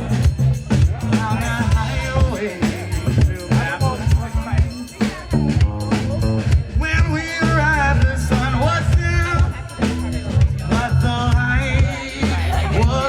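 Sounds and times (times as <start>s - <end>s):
bass guitar groove: 0.0s - 13.0s
drum kit: 0.0s - 13.0s.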